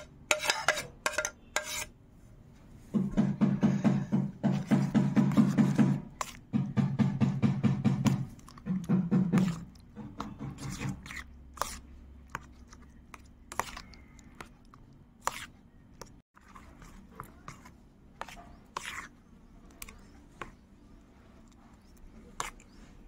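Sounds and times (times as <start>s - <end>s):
spoon scraping wet food: 0.0s - 2.0s, 3.8s - 23.0s.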